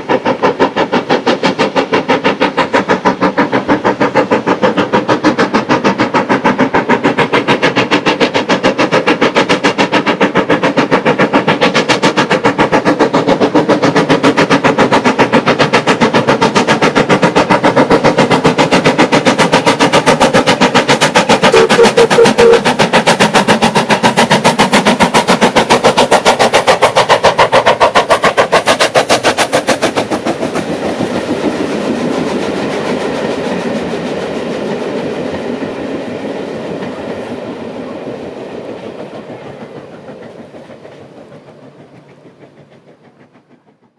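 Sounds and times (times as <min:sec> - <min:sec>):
carriages clattering on rails: 0:00.0 - 0:43.9
steam locomotive chuffing: 0:00.0 - 0:43.9.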